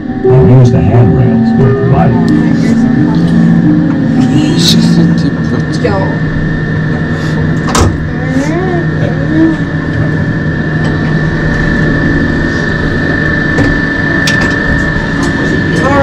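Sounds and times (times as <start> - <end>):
steady low hum: 0.0 - 16.0
thin high whine: 0.0 - 16.0.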